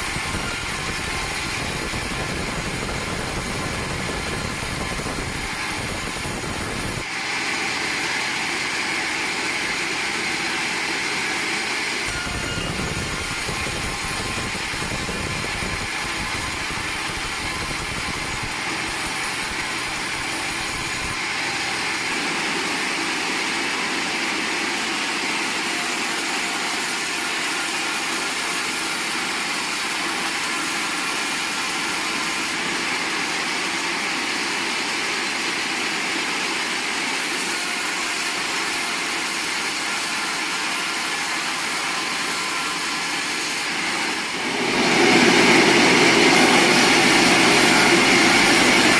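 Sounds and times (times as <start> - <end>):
sawmill saw whirring: 0.0 - 48.9.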